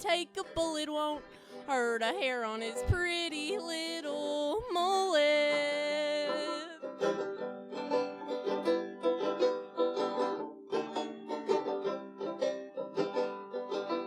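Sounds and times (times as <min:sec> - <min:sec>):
plucked string instrument runs: 0:00.0 - 0:14.0.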